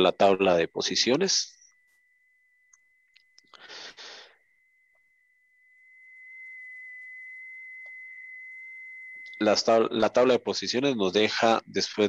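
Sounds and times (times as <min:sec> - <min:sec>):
high-pitched electronic tone: 0:00.0 - 0:12.0.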